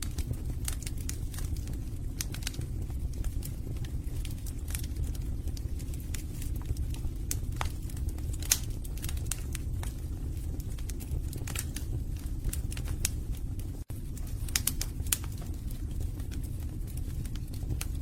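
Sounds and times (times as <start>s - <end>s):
logs crackling in fireplace: 0.0s - 18.0s.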